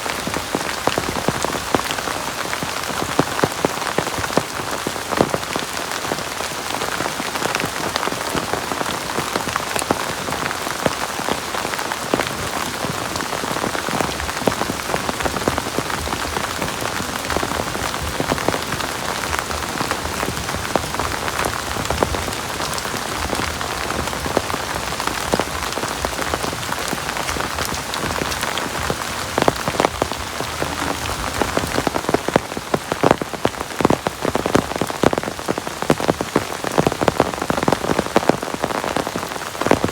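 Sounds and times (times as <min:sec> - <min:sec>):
heavy rain hissing: 0:00.0 - 0:39.9
raindrops ticking on a surface: 0:00.0 - 0:39.9.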